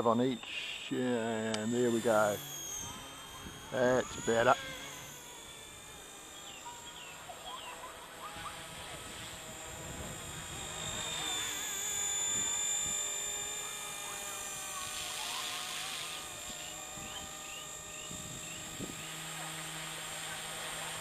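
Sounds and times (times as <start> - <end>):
rc helicopter motor whine: 0.0 - 21.0.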